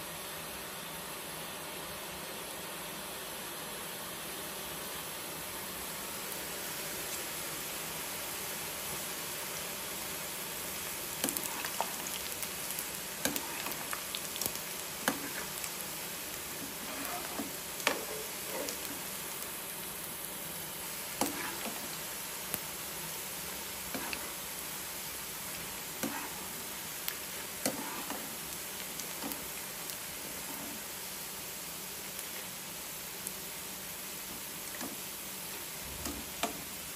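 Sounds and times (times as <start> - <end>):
batter deep-frying in oil: 0.0 - 36.9.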